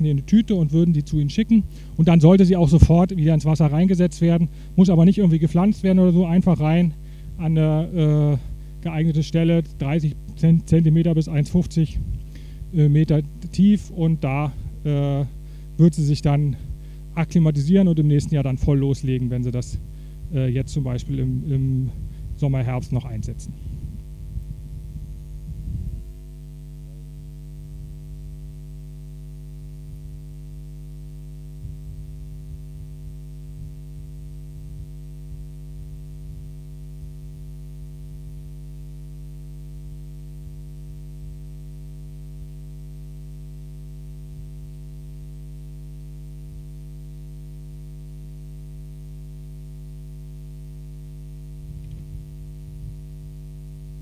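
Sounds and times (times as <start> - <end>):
faint low rumbles: 0.0 - 39.0, 49.0 - 54.0
electrical mains hum: 0.0 - 54.0.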